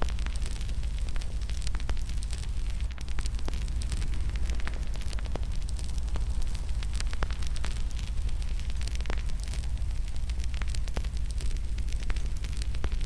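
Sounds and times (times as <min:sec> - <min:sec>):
fireplace fire crackling: 0:00.0 - 0:13.0.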